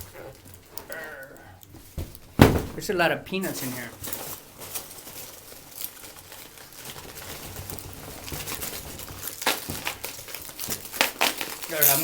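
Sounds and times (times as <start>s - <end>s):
hands rustling packing peanuts: 0.0s - 12.0s.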